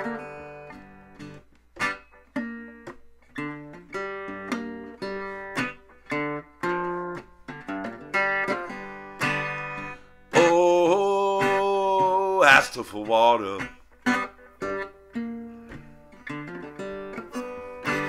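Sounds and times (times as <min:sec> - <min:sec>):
slide guitar blues riff: 0:00.0 - 0:18.0.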